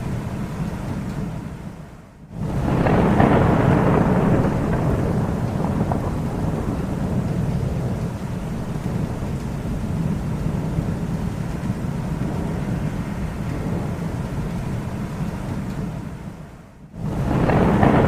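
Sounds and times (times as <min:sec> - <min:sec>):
rolling thunder: 0:00.0 - 0:18.0.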